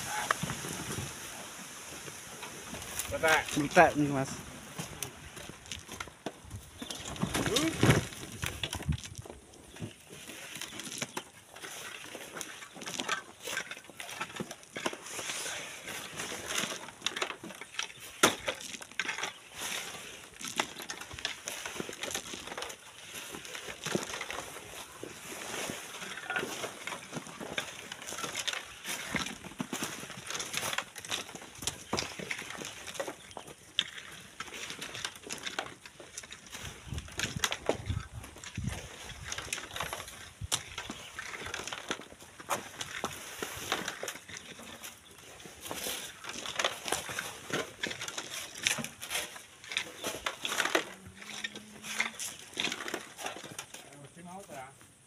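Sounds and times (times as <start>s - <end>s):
tools digging in sand and gravel: 0.0s - 54.8s.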